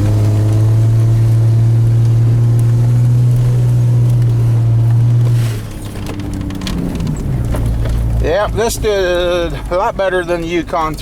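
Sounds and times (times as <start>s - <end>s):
car engine droning at high revs: 0.0s - 11.0s.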